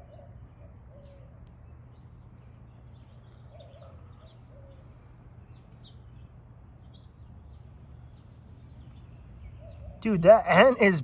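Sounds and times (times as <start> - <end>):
bird calls and chirps: 0.0 - 10.3.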